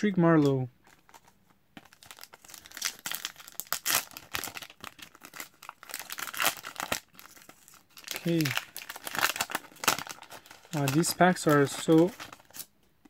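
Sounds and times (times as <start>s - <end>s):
wrapper crinkling and tearing: 0.8s - 12.7s.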